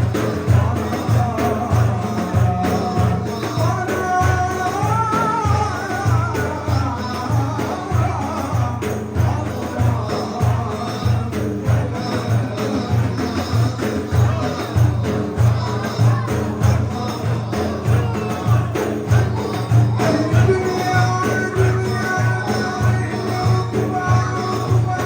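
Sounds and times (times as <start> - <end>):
steady drum beat: 0.0 - 25.0
voices singing a hymn: 0.0 - 25.0.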